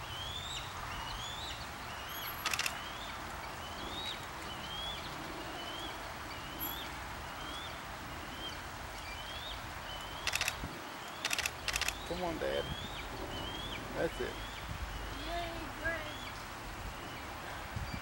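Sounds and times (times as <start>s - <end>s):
outdoor background hiss: 0.0s - 18.0s
small bird chirping: 0.0s - 18.0s.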